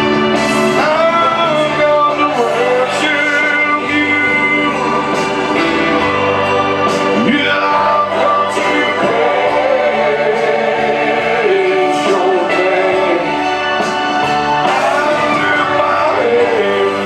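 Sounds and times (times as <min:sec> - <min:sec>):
congregation singing: 0:00.0 - 0:17.0
sustained keyboard chords: 0:00.0 - 0:17.0.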